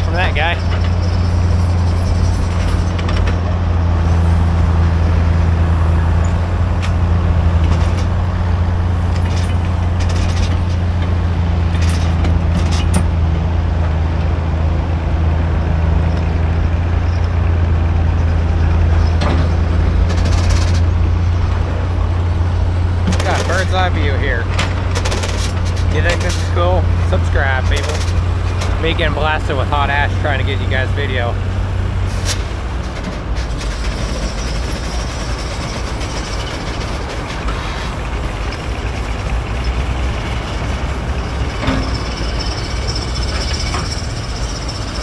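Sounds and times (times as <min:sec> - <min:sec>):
engine droning steadily: 0:00.0 - 0:45.0.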